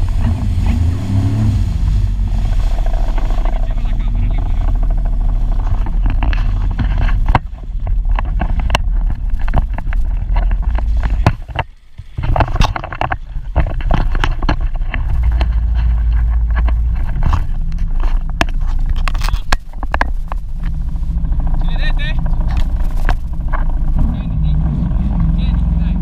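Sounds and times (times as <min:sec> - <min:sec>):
jet ski engine rumble: 0:00.0 - 0:26.0
wind on microphone: 0:00.0 - 0:26.0.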